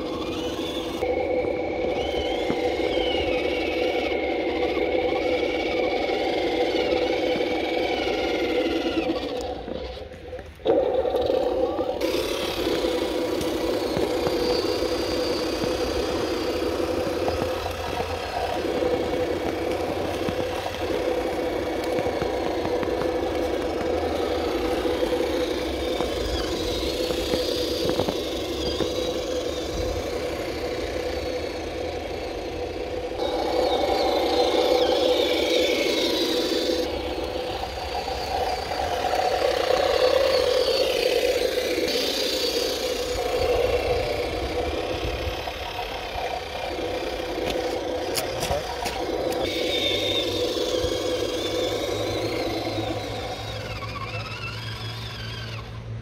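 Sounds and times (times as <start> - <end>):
toy truck motor humming: 0.0 - 56.0.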